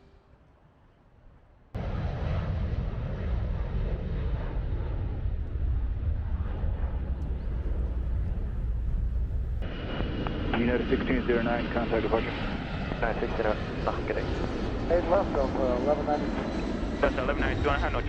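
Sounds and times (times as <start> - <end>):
jet airliner rumble: 1.8 - 18.0.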